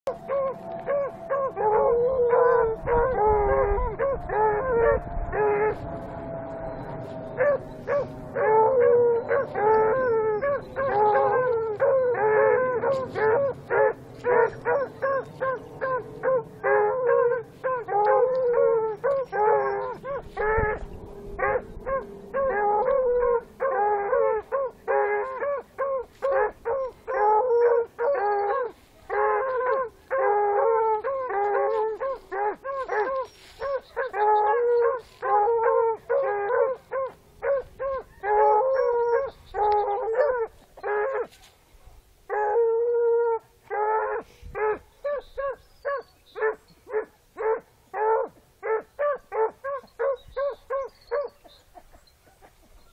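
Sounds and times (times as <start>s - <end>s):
hound pups baying: 0.1s - 41.5s, 42.3s - 52.9s.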